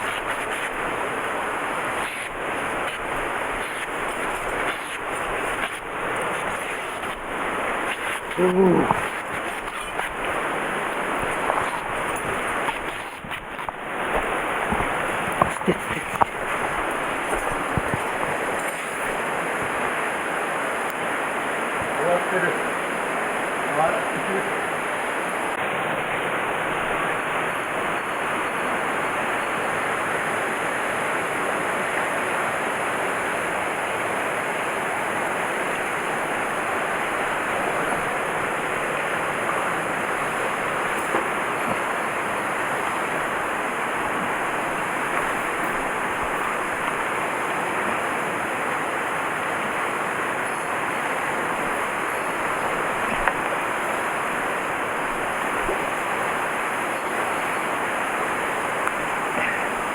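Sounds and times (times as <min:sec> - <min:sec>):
rushing stream water: 0:00.0 - 0:59.9.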